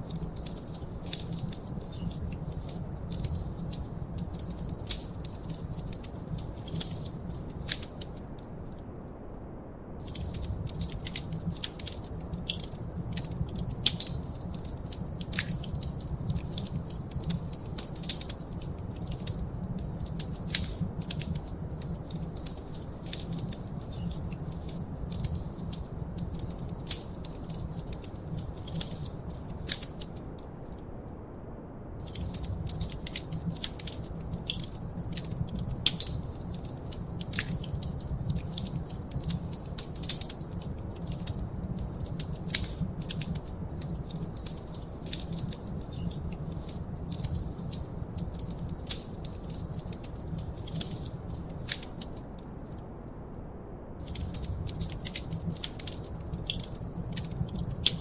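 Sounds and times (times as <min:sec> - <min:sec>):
wood fire crackling: 0:00.0 - 0:09.0, 0:10.0 - 0:31.0, 0:32.0 - 0:53.0, 0:54.0 - 0:58.0.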